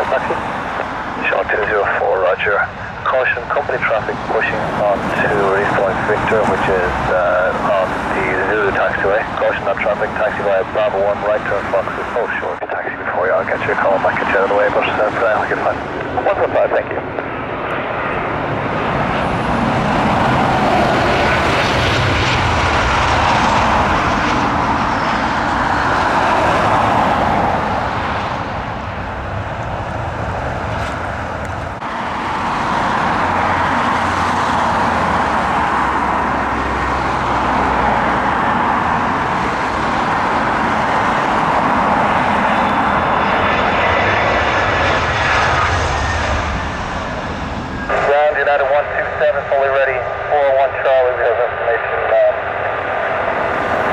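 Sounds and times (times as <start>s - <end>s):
jet engines passing: 0.0s - 53.9s.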